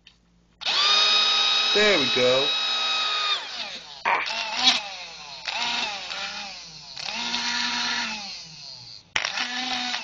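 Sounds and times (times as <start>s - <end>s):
small drill motor whining: 0.6s - 10.0s.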